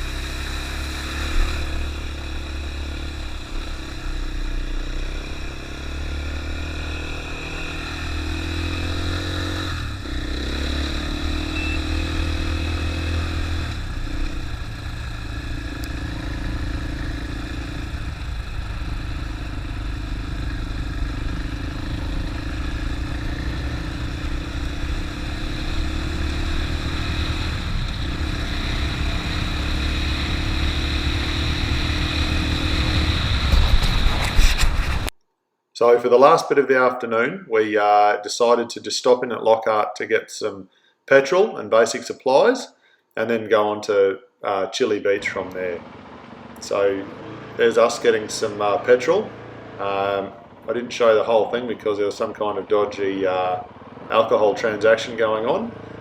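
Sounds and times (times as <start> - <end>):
dirt bike engine running: 0.0 - 35.1, 45.3 - 56.0.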